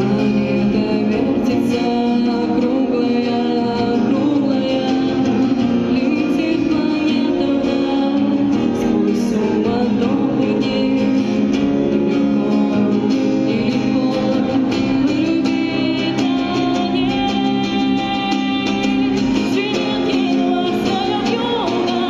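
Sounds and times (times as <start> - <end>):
strummed acoustic guitar: 0.0 - 22.0
woman singing: 0.0 - 22.0.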